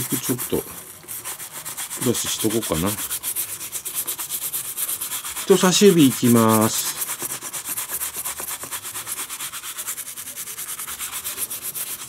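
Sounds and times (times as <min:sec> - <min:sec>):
cloth scrubbing leather: 0:00.0 - 0:12.0.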